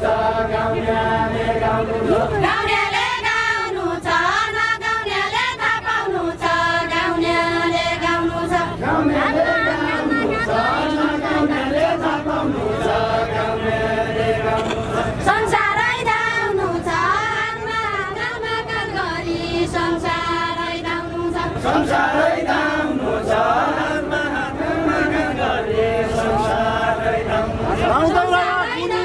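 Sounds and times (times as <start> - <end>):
group singing folk song: 0.0 - 29.0.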